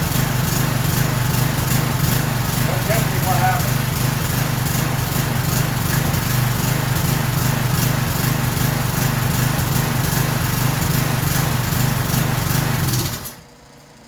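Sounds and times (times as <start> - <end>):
lawn mower engine running: 0.0 - 13.8.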